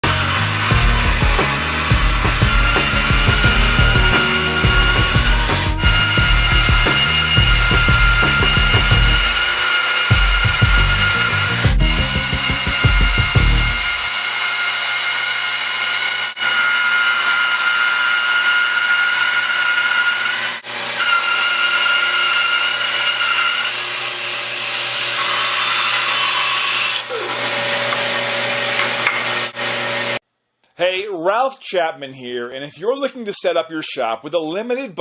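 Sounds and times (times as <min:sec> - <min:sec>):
power tool high whine: 0:00.0 - 0:30.2.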